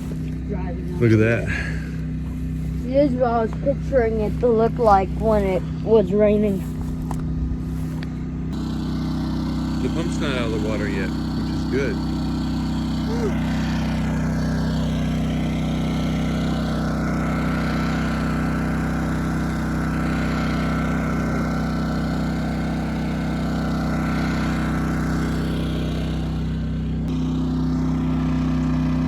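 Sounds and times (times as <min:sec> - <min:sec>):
small engine humming: 0:00.0 - 0:29.0.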